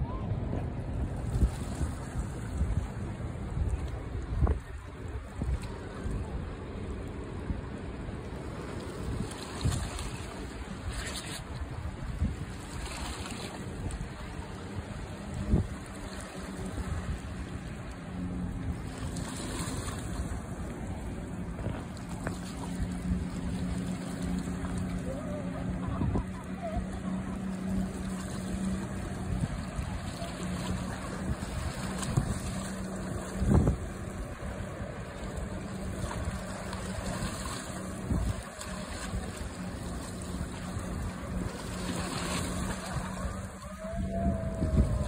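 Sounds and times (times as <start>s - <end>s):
motorboat engine humming: 0.0s - 45.0s
wind buffeting microphone: 0.0s - 45.0s.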